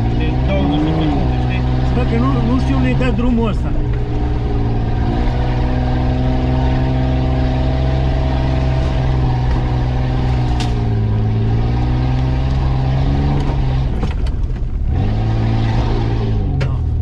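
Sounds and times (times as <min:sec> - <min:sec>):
car engine pulling at low speed: 0:00.0 - 0:17.0.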